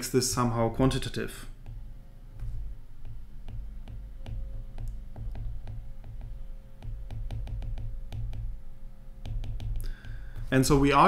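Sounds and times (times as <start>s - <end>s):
stylus tapping on screen: 1.5s - 10.8s.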